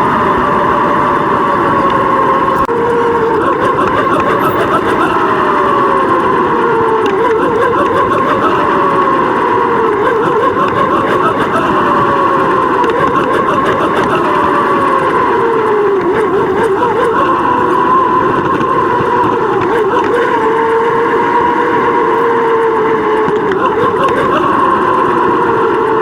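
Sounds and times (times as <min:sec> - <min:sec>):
wavering held tone: 0:00.0 - 0:26.0
wind rushing on microphone: 0:00.0 - 0:26.0.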